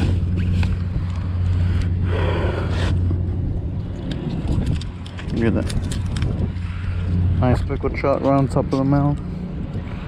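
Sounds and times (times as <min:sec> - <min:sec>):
low motor-like hum: 0:00.0 - 0:10.0.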